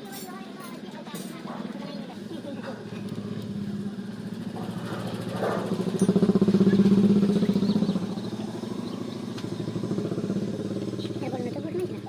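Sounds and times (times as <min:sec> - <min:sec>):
motorcycle engine revving: 0:02.2 - 0:12.0.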